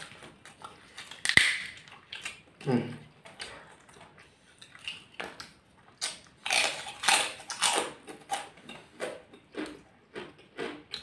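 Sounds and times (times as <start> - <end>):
crunchy chewing of crackers: 0.0 - 11.0.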